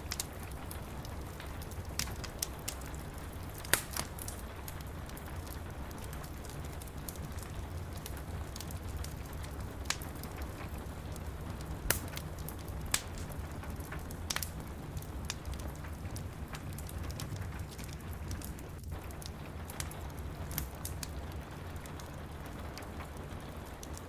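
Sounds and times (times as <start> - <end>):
steady rain: 0.0 - 24.0
wood fire crackling and popping: 0.0 - 24.0.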